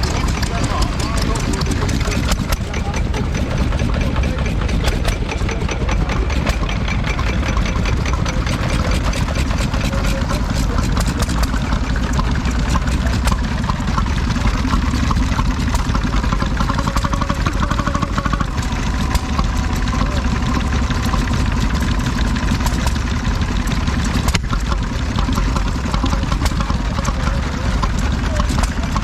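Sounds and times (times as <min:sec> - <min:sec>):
stationary engine running: 0:00.0 - 0:29.0.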